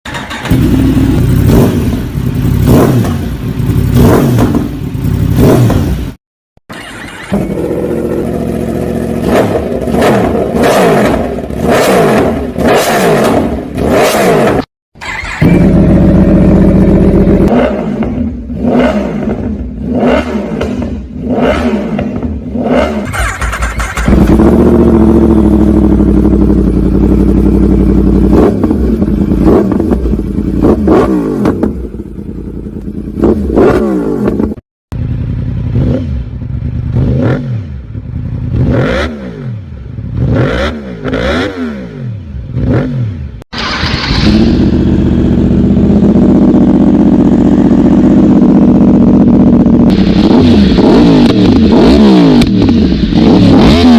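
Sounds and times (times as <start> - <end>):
motorcycle engine revving: 0.1 - 53.9.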